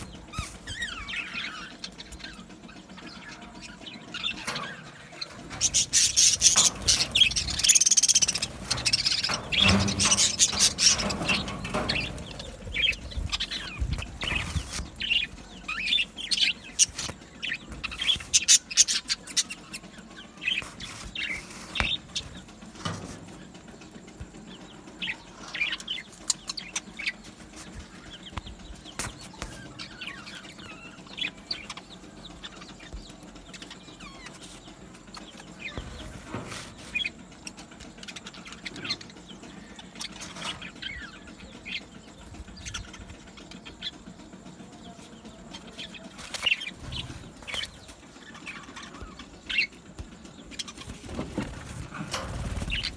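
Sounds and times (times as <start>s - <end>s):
budgerigars chirping and chattering: 0.0s - 52.9s
wings fluttering: 0.0s - 52.9s.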